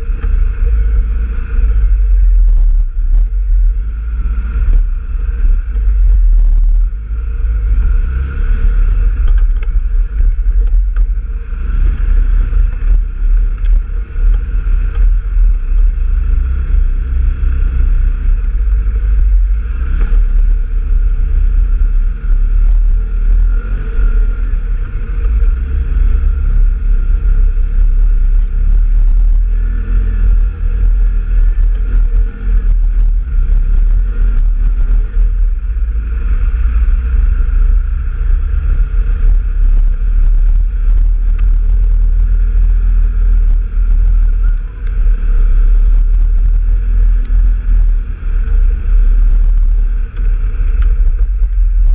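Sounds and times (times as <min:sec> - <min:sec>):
off-road vehicle engine running: 0:00.0 - 0:51.9
wind rumbling on microphone: 0:00.0 - 0:51.9.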